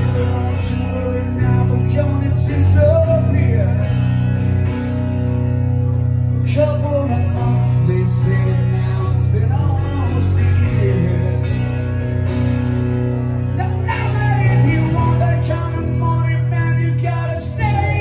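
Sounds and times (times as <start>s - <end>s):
bass guitar line: 0.0s - 18.0s
electric guitar playing: 0.0s - 18.0s.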